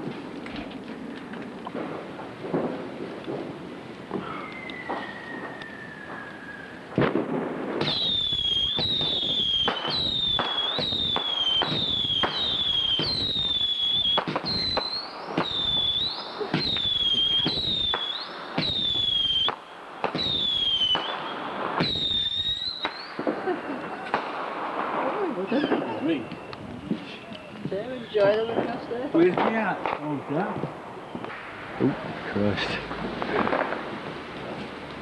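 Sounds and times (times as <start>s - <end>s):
fireworks cracking: 0.0s - 35.0s
whistling fireworks: 1.6s - 35.0s.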